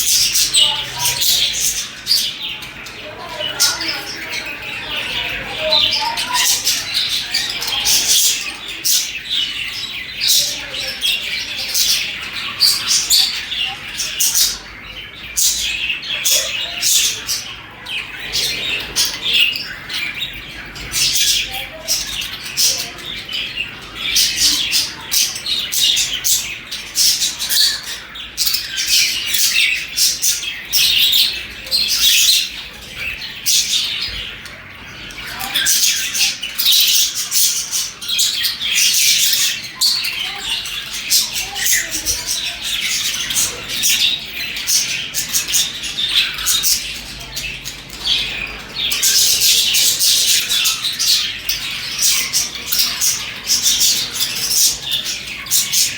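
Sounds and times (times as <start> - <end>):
budgerigars chirping and chattering: 0.0 - 55.9.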